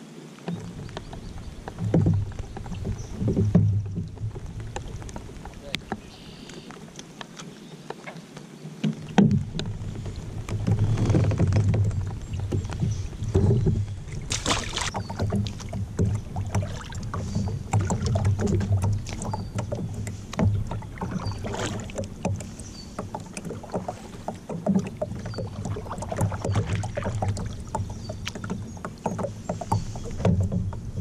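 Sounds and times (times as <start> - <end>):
knocks and rattles on kayak hull: 0.4 - 31.0.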